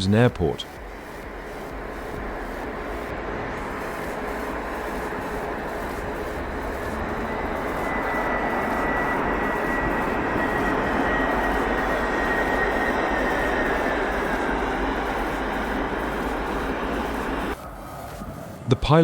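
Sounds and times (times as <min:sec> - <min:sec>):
jet engines rushing with high whine: 0:00.0 - 0:19.0.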